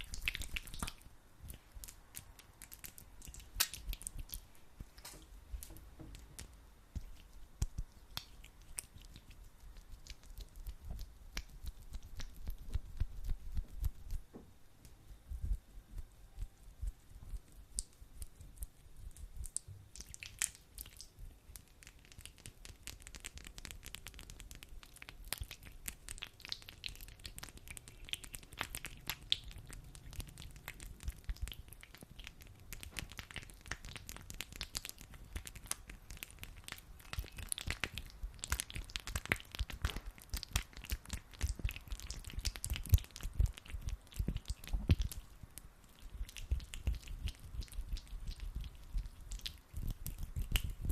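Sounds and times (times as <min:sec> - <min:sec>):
hands rubbing sticky gel: 0:00.0 - 0:29.3, 0:30.7 - 0:50.9.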